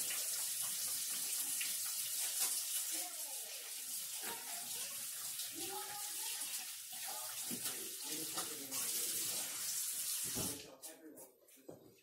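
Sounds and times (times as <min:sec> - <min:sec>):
hands washing under water: 0:00.0 - 0:10.7
tap water running: 0:00.0 - 0:10.8.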